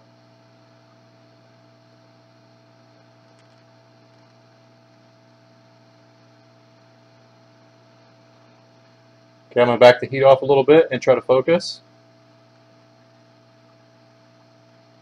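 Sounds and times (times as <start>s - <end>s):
electrical hum with tones: 0.0s - 15.0s.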